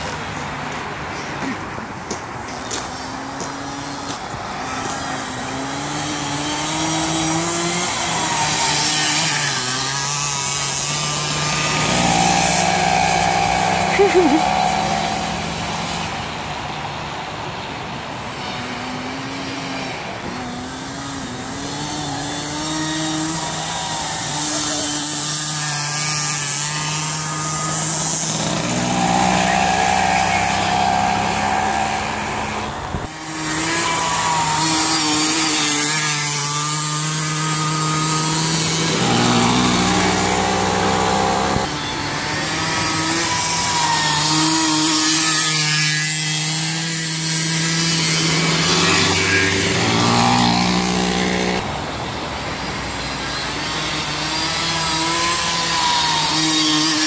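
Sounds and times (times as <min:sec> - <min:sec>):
small two-stroke engines revving: 0:00.0 - 0:57.0.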